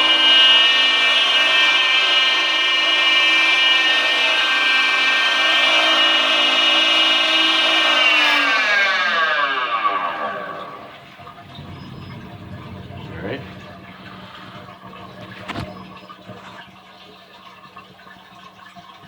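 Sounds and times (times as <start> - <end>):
pool pump whining: 0.0 - 19.0.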